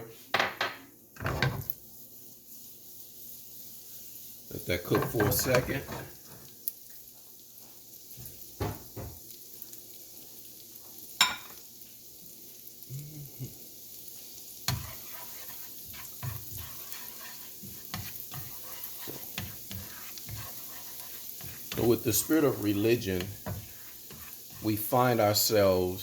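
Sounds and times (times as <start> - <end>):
garlic sizzling in a pan: 0.0 - 26.0.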